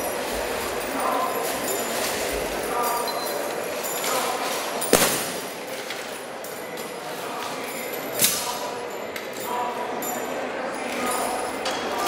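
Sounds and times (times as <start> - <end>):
scrap metal clinking and jangling: 0.0 - 12.0.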